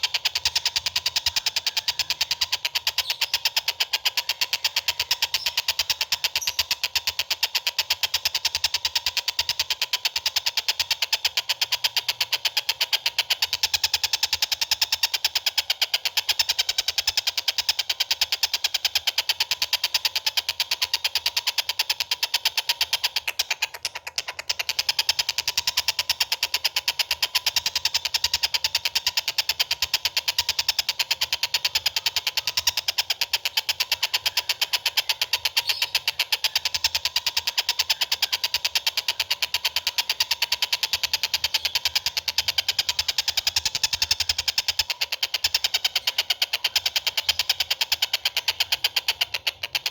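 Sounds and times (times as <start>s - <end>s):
songbird rattling chatter: 0.0s - 49.9s.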